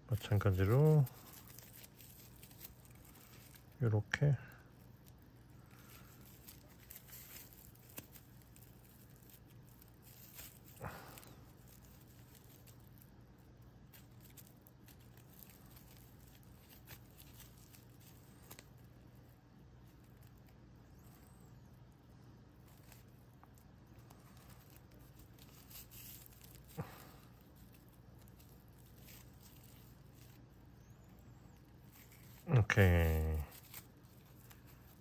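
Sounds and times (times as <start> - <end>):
yarn rustling and scraping: 0.0 - 35.0.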